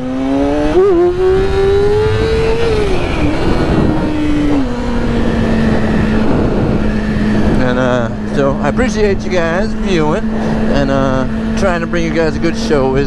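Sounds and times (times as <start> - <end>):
motorcycle engine: 0.0 - 13.0
wind rush: 0.0 - 13.0.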